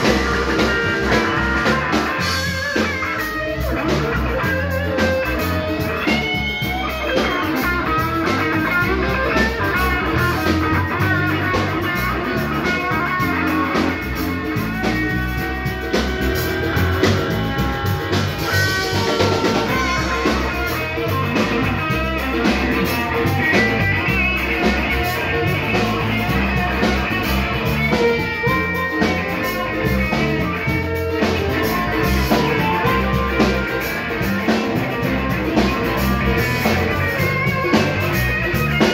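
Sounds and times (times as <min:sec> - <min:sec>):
live blues band playing: 0:00.0 - 0:38.9.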